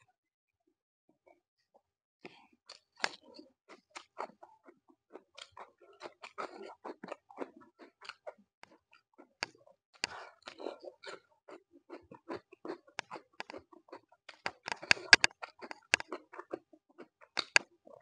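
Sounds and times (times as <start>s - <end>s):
crunching and chewing cucumber: 2.7s - 18.0s.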